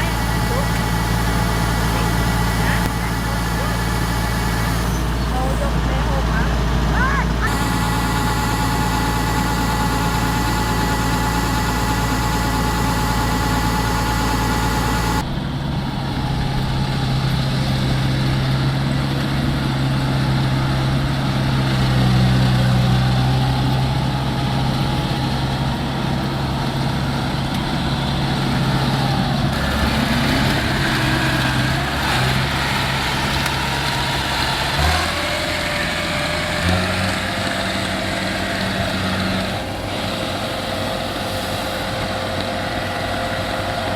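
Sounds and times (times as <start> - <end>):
combine harvester engine running: 0.0 - 43.9.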